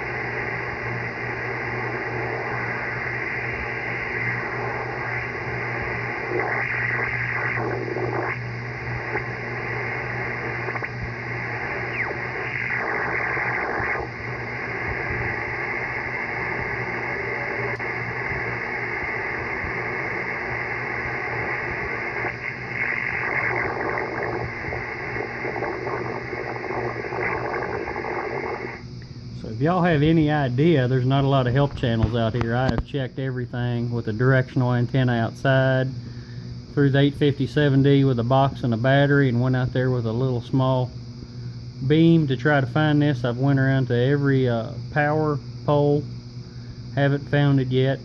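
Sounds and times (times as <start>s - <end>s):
buzzing radio static: 0.0s - 48.0s
steady low hum: 0.0s - 48.0s.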